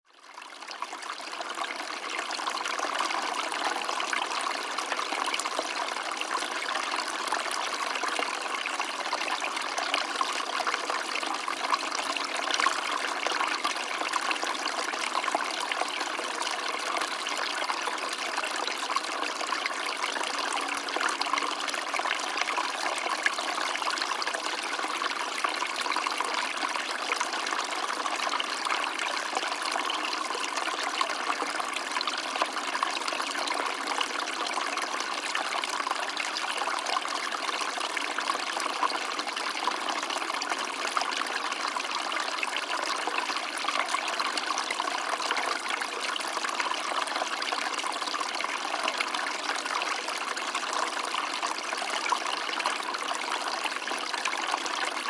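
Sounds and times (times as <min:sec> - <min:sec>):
stream of water trickling: 0:00.1 - 0:55.0.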